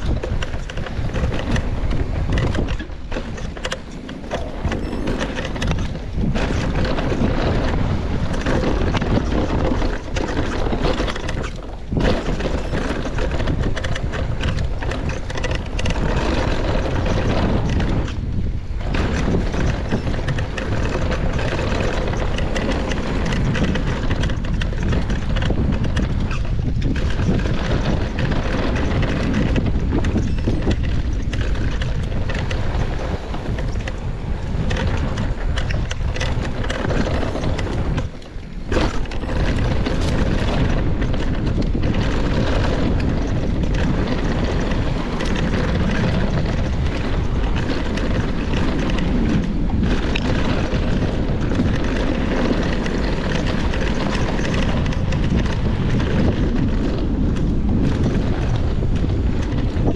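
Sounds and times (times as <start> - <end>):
bike clicks and rattles: 0.0 - 59.9
bike tyres rolling on dirt: 0.0 - 59.9
wind on microphone: 0.0 - 59.9.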